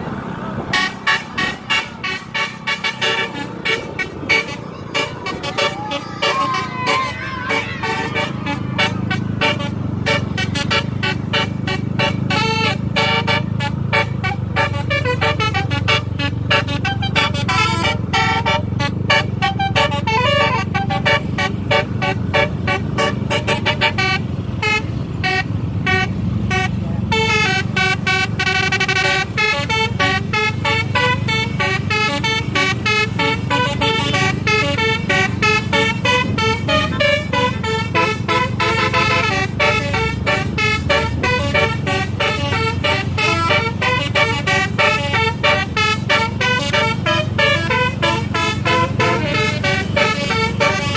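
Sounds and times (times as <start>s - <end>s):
bus rumble: 0.0s - 50.9s
musical air horn melody: 0.7s - 50.9s.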